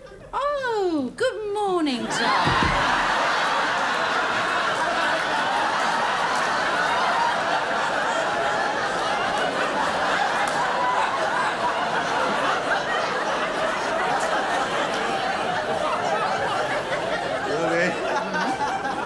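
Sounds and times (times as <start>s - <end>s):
studio audience laughing: 2.0s - 19.0s.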